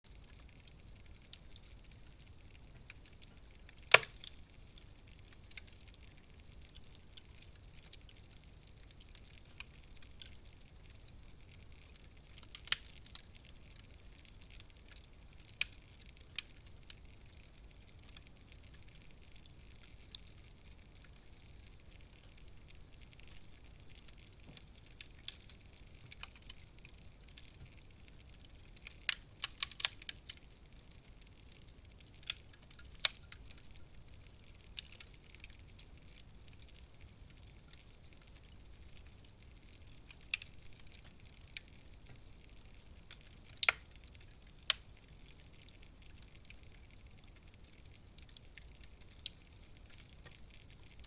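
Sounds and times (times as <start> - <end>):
soft hiss of burning wood: 0.1 - 51.0
wood fire crackling: 0.1 - 51.0.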